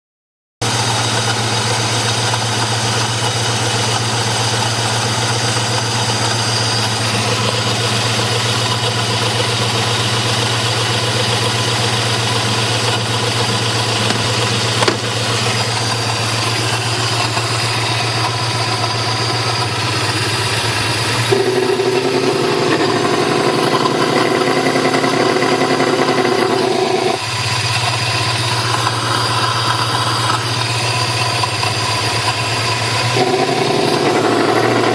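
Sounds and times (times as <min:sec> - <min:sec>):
engine idling with throaty note: 0:00.6 - 0:34.9.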